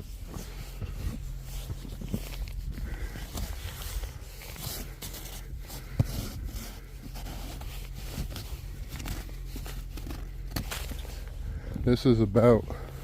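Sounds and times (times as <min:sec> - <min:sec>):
crunching and scraping in snow: 0:00.0 - 0:13.0.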